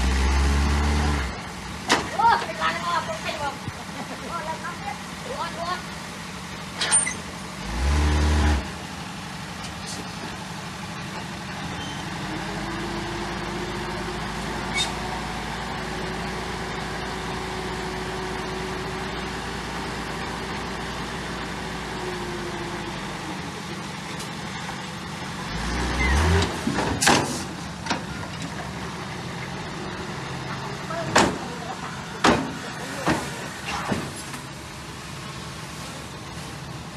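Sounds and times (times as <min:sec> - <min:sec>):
diesel construction machinery running: 0:00.0 - 0:36.9.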